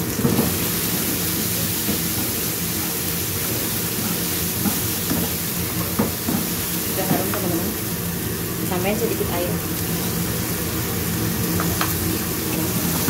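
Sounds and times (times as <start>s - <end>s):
paste sizzling in oil: 0.0s - 13.0s.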